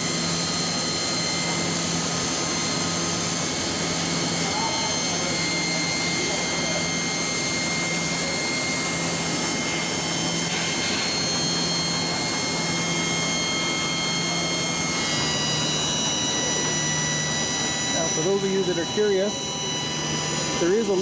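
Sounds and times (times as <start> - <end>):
hydraulic pump whining hum: 0.0 - 21.0.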